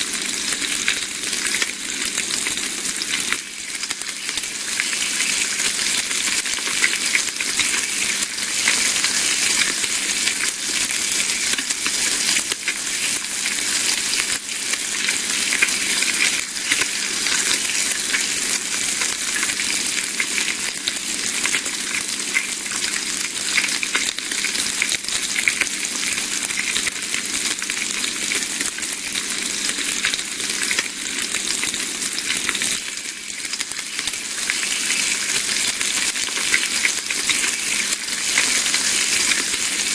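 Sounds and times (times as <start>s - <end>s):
bacon sizzling in a frying pan: 0.0s - 39.9s.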